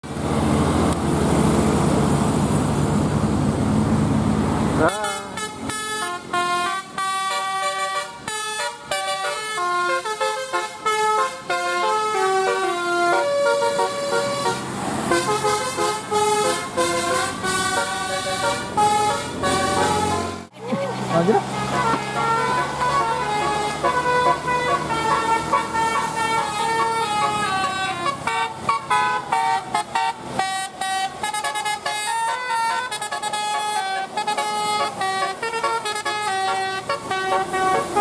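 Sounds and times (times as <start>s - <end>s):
bus engine: 0.0s - 38.0s
multi-tone air horn tune: 4.9s - 20.5s, 21.3s - 38.0s.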